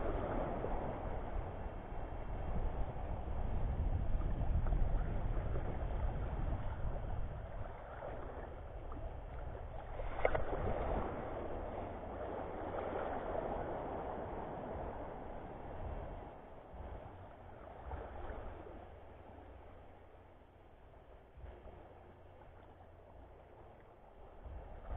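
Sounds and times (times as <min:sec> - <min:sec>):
low rumble: 0:00.0 - 0:24.9
seawater sloshing and lapping: 0:04.1 - 0:24.9.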